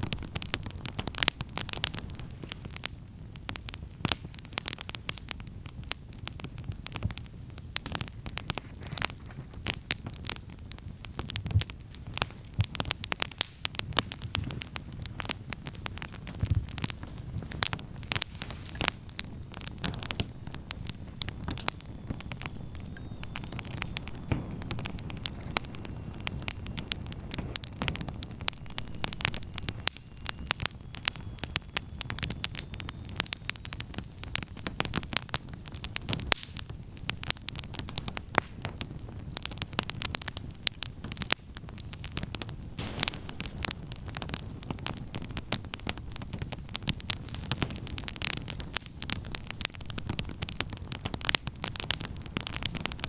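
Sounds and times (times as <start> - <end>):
campfire crackling and popping: 0.0 - 53.0
low rumble of flames: 0.0 - 53.0.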